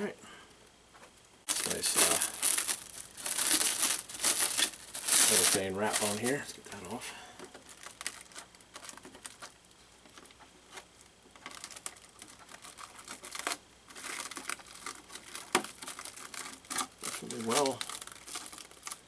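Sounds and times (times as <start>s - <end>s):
cellophane crackling: 1.5s - 6.6s, 7.5s - 10.4s, 11.4s - 19.0s.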